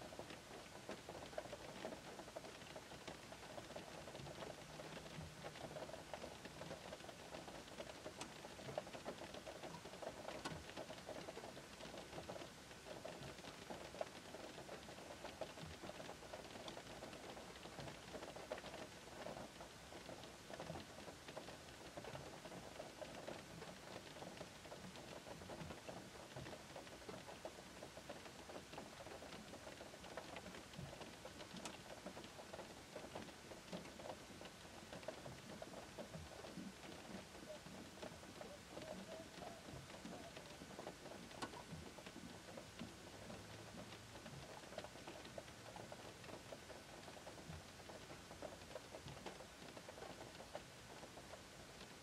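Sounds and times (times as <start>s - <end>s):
rain pattering on car roof: 0.0s - 52.0s
raindrop ticks: 0.0s - 52.0s.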